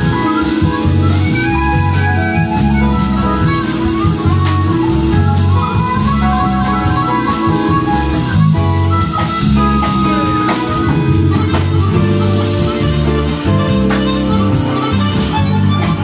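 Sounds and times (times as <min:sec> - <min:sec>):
drum kit with cymbal strokes: 0:00.0 - 0:16.0
electric bass: 0:00.0 - 0:16.0
electric guitar: 0:00.0 - 0:16.0
harmonicas playing melody: 0:00.0 - 0:16.0.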